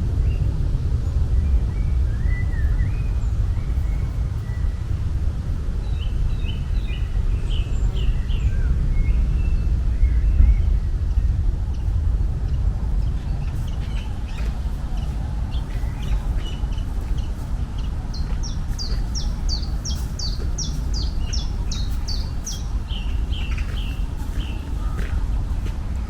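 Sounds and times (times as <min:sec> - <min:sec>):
steady low rumble: 0:00.0 - 0:26.0
songbird singing: 0:00.2 - 0:26.0.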